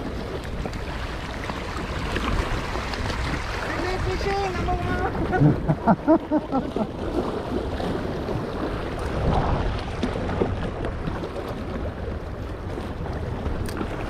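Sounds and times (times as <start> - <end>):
sea water sloshing against rock: 0.0 - 14.0
wind on microphone: 0.0 - 14.0.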